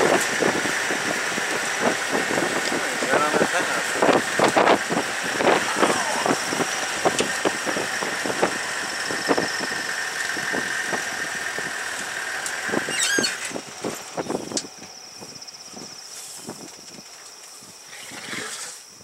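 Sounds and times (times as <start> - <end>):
vehicle body rattling and knocking: 0.0 - 17.2
steady high whine: 0.0 - 19.0.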